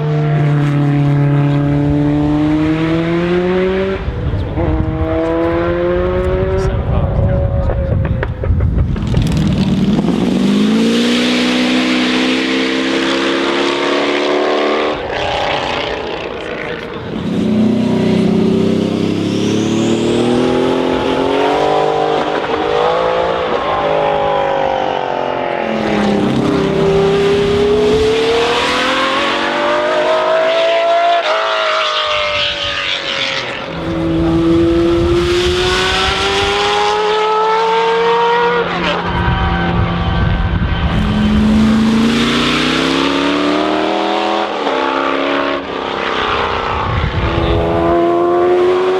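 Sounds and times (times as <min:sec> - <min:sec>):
racing cars accelerating past: 0:09.0 - 0:48.9.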